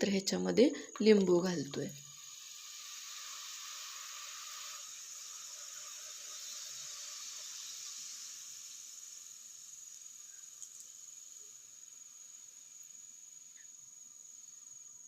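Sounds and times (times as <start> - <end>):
pot of water boiling: 0.2 - 15.0.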